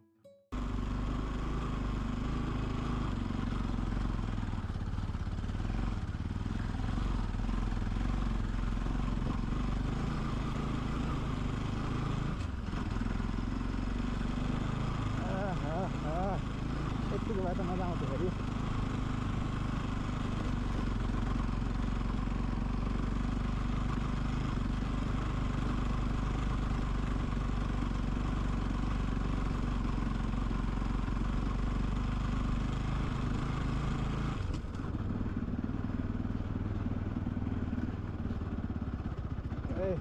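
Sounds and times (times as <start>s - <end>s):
motorcycle engine running: 0.6s - 40.0s.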